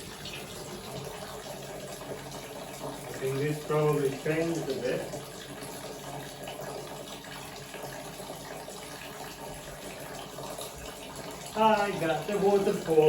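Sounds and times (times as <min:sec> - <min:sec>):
water stream splashing into bowl: 0:00.0 - 0:13.0.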